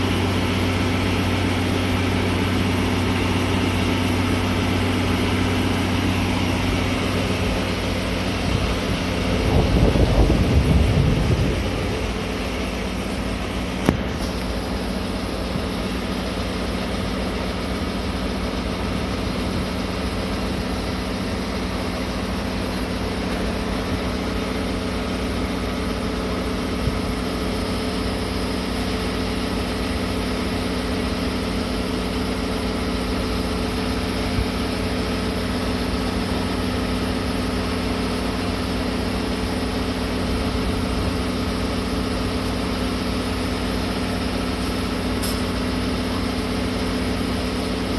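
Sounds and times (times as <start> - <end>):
locomotive engine idling: 0.0 - 47.9.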